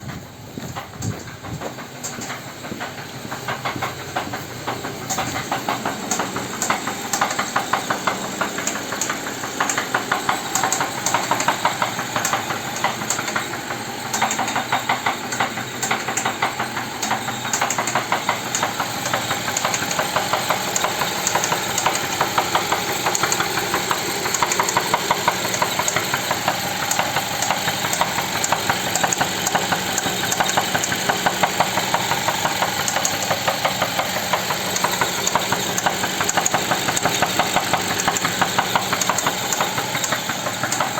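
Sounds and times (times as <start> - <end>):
engine idling: 0.0 - 40.9
rapid knocking inside engine: 0.0 - 40.9.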